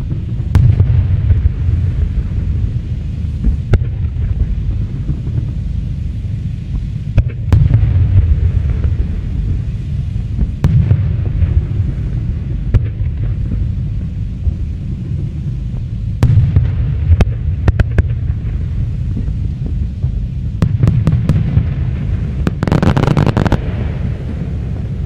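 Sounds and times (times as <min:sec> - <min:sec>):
sharp firework cracks: 0:00.0 - 0:05.6, 0:07.1 - 0:25.0
fireworks booming rumble: 0:00.0 - 0:25.0.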